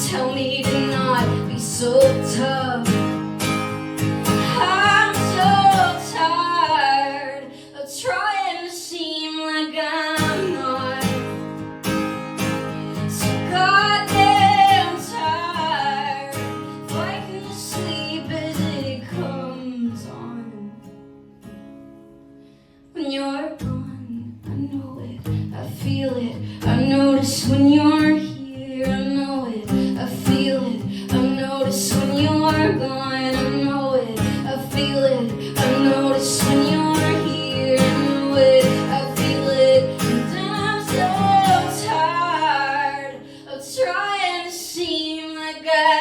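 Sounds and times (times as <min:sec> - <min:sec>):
strummed acoustic guitar: 0:00.0 - 0:08.8, 0:09.4 - 0:22.8, 0:23.6 - 0:45.8
woman singing: 0:00.0 - 0:11.6, 0:12.7 - 0:21.1, 0:22.9 - 0:46.0.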